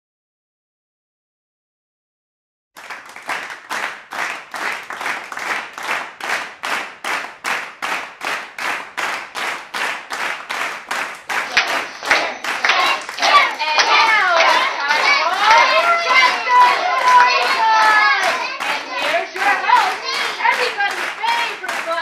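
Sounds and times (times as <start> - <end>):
audience clapping in rhythm: 2.8 - 22.0.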